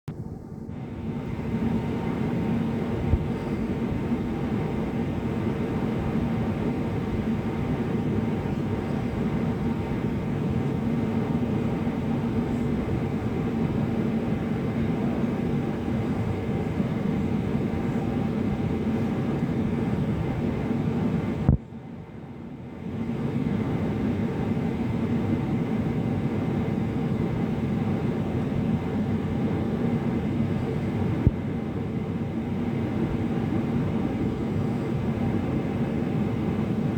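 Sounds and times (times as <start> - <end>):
airliner cabin drone: 0.1 - 36.9
faint steady hum: 0.1 - 36.9.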